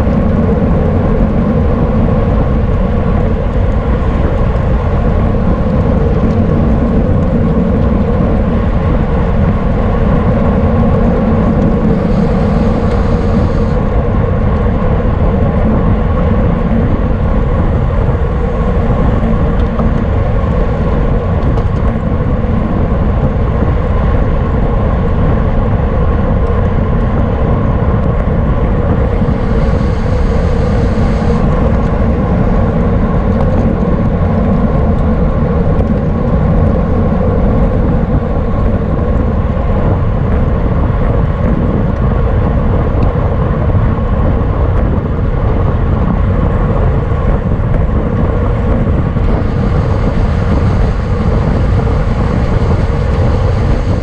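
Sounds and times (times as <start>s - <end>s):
road rumble: 0.0s - 54.0s
wind buffeting microphone: 0.0s - 54.0s.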